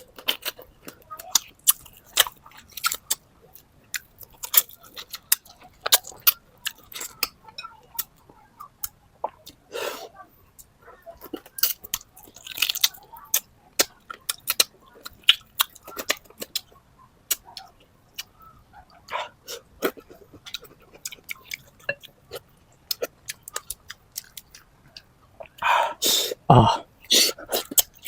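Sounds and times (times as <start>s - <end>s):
close chewing with wet smacks: 0.0s - 9.6s, 10.6s - 25.7s, 27.0s - 28.0s.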